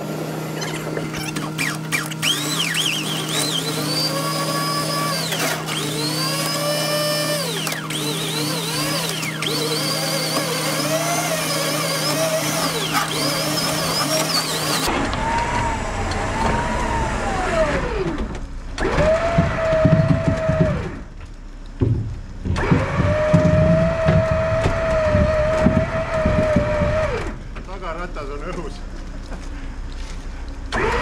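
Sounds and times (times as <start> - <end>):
power tool whirring: 0.0 - 21.0, 22.5 - 27.4, 30.7 - 31.0
starter motor whine: 0.0 - 21.2, 22.4 - 27.6, 30.6 - 31.0.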